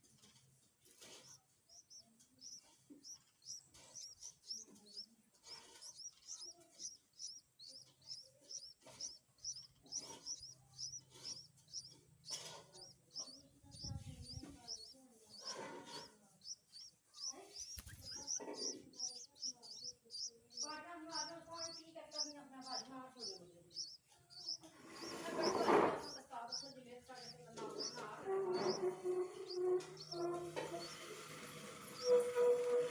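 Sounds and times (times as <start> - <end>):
chick begging chirps: 1.7 - 32.9.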